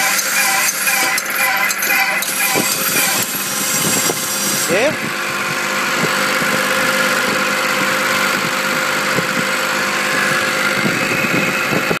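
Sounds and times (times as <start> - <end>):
machine droning with whine: 0.0 - 12.0.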